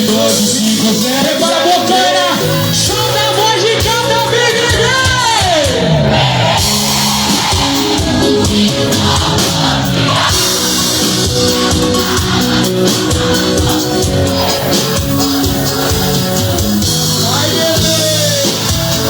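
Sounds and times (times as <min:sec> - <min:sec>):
bass notes: 0:00.0 - 0:19.0
drum kit beat: 0:00.0 - 0:19.0
guitar: 0:00.0 - 0:19.0.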